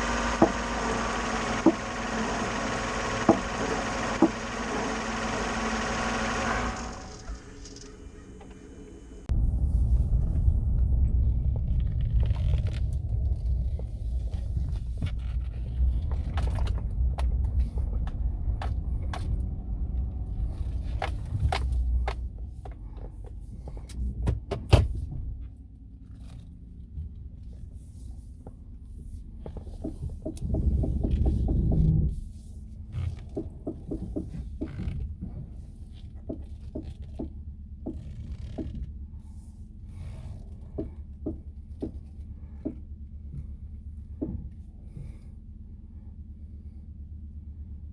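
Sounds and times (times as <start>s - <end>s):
sharp popping under steering: 0.0s - 8.3s, 9.3s - 45.2s
engine rumbling: 0.0s - 47.9s.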